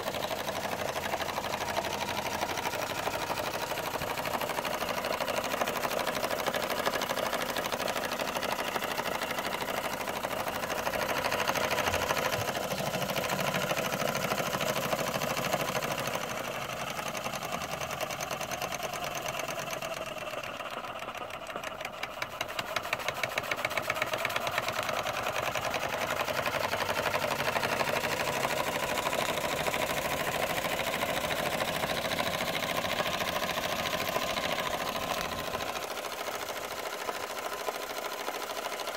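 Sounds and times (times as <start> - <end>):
toy steam engine chuffing: 0.0 - 38.9.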